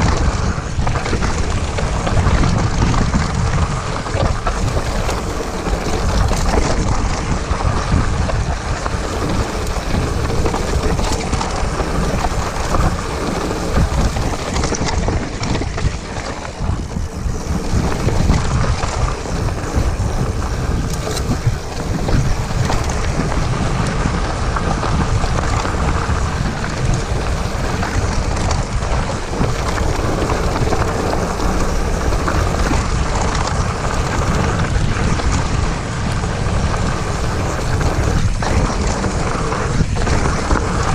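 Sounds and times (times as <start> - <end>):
bike rattling over bumps: 0.0 - 40.9
tyres crunching on gravel: 0.0 - 40.9
wind buffeting microphone: 0.0 - 40.9.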